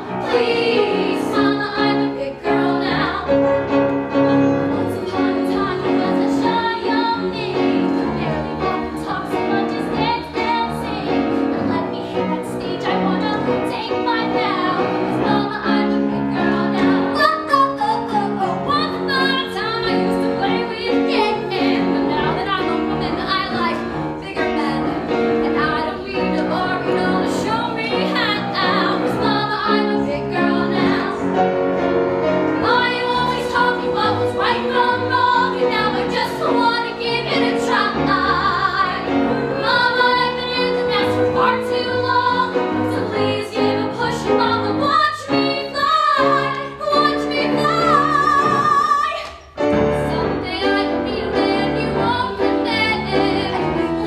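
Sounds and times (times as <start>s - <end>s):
young female voices singing: 0.0s - 31.3s, 32.6s - 54.0s
instrumental accompaniment: 0.0s - 54.0s.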